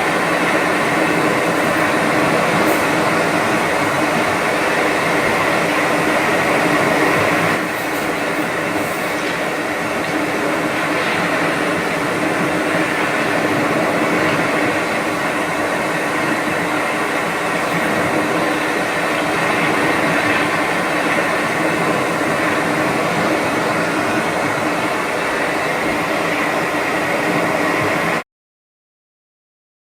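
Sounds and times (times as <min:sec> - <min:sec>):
sound machine humming: 0:00.0 - 0:28.2.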